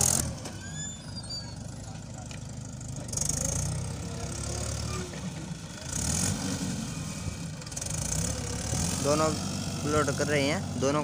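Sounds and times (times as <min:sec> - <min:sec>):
diesel tractor engines idling: 0:00.0 - 0:11.0.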